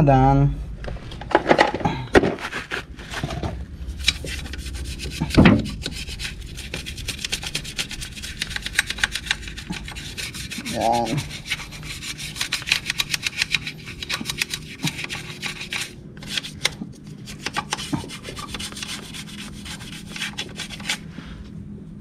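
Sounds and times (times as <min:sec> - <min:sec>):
brush scrubbing metal: 0:02.4 - 0:21.1.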